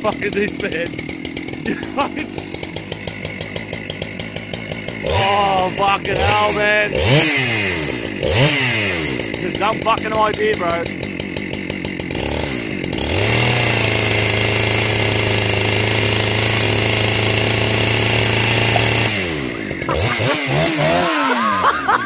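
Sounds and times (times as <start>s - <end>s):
chainsaw revving: 0.0s - 22.0s.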